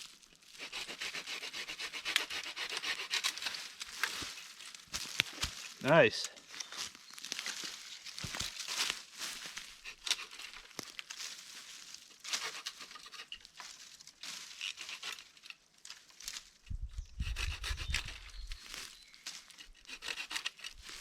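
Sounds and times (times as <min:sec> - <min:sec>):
wood and brush scraping: 0:00.6 - 0:05.8, 0:06.4 - 0:16.5, 0:17.2 - 0:21.0.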